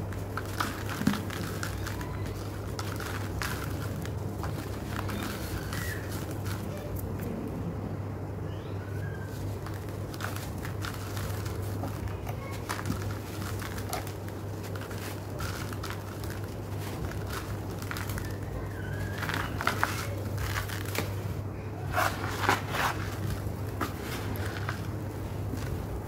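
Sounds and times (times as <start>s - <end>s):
dry cement mix crumbling: 0.0s - 7.3s, 9.3s - 26.0s
steady low hum: 0.0s - 26.0s.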